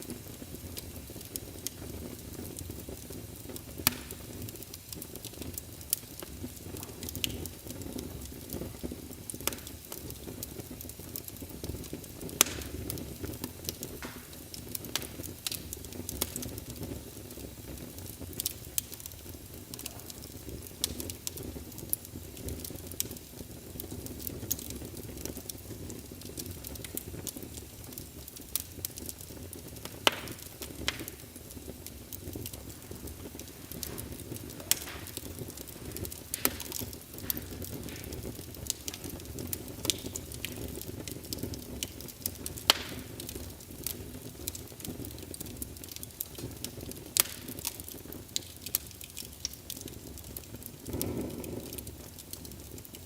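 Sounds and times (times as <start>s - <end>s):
fire popping and crackling: 0.0s - 53.0s
fire rumbling: 0.0s - 53.0s.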